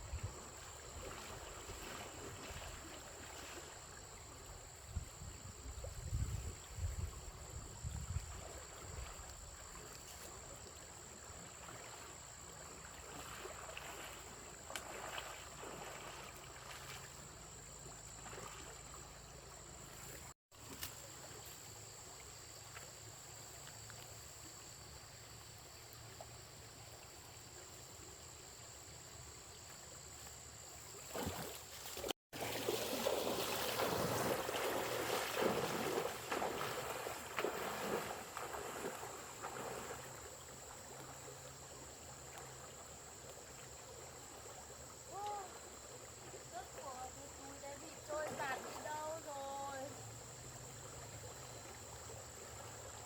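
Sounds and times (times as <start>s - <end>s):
running water: 0.0s - 28.4s, 30.8s - 53.0s.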